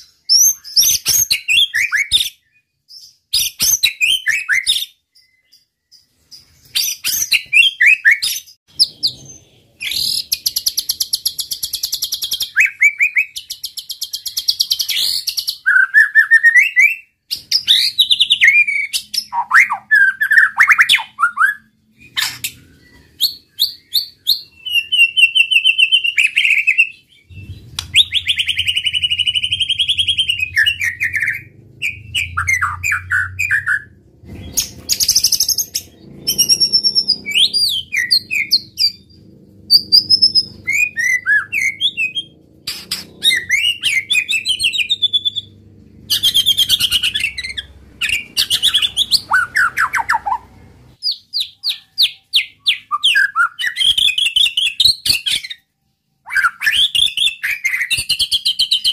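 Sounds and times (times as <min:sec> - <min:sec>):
bird singing: 0:00.0 - 0:58.9.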